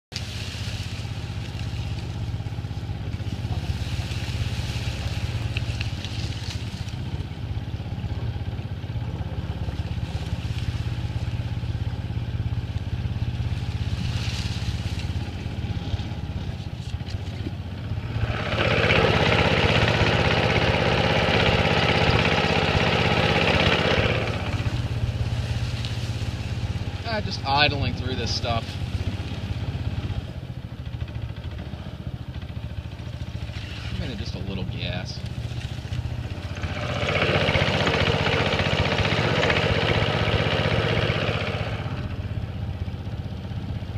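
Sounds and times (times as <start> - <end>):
boat motor droning: 0.0 - 43.9.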